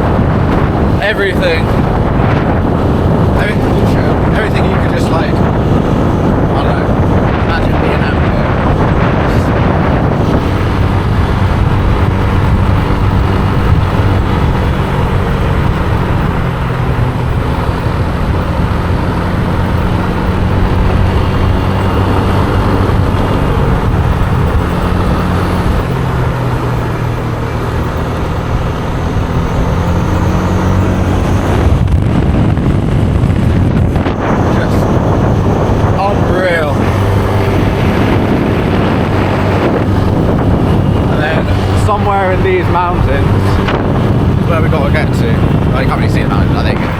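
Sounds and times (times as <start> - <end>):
motorbike engine running: 0.0 - 46.9
wind rushing over microphone: 0.0 - 46.9.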